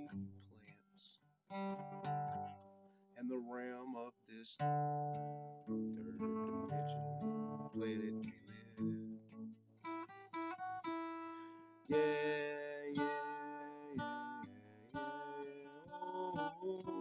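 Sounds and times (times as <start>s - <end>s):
acoustic guitar strumming: 1.5s - 17.0s.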